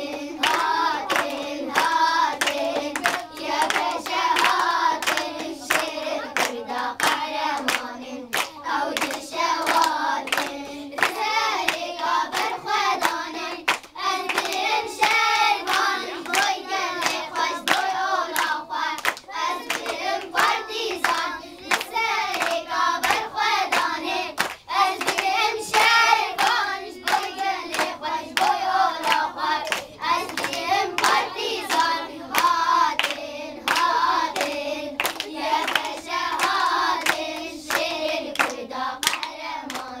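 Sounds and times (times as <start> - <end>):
children singing: 0.0 - 40.0
hands clapping: 0.0 - 40.0.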